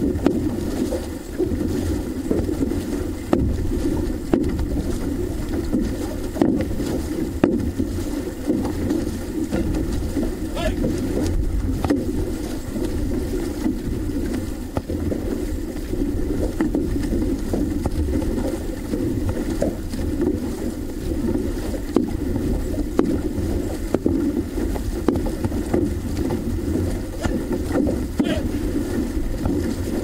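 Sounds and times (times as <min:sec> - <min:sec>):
paddle stroke knocks: 0:00.0 - 0:30.0
water rushing along a hull: 0:00.0 - 0:30.0
wind rumble on microphone: 0:00.0 - 0:30.0.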